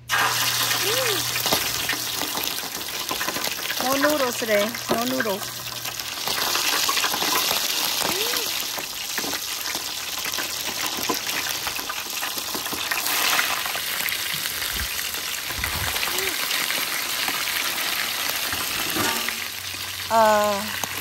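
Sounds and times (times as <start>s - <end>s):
fish sizzling in hot oil: 0.0s - 21.0s.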